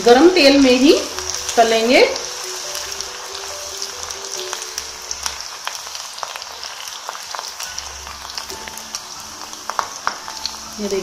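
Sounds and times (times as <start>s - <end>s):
dough deep-frying in oil: 0.0s - 11.0s.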